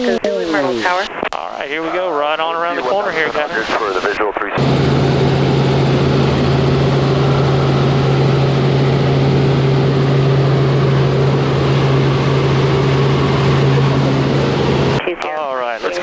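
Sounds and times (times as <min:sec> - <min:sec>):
helicopter engine and rotors drone: 0:02.6 - 0:16.0.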